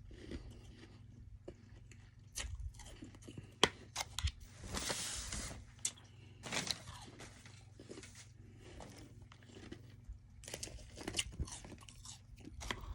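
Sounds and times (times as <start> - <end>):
chewing and crunching ice: 0.0 - 4.4, 5.8 - 12.9.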